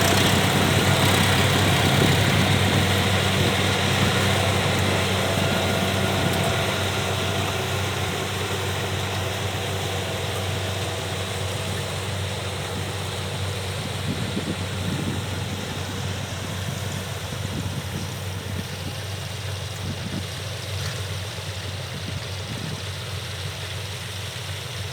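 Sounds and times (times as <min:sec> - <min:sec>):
combine harvester running: 0:00.0 - 0:24.9.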